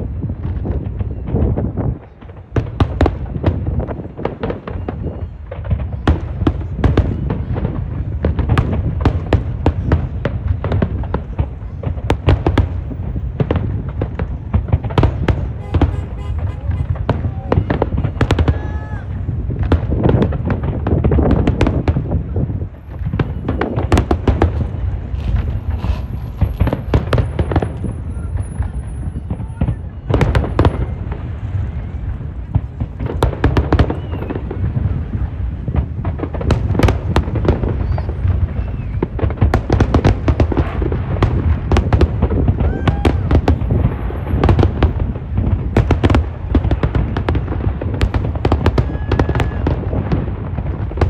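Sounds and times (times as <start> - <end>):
fireworks sharp bangs: 0.0 - 51.0
low rumble of fireworks bursts: 0.0 - 51.0.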